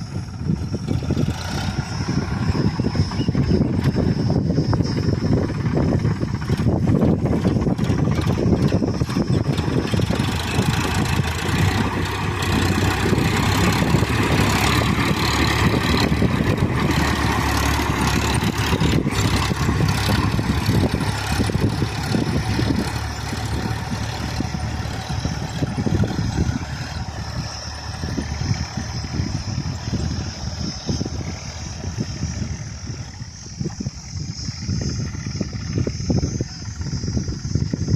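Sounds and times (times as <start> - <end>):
tractor diesel engine under load: 0.0 - 37.9.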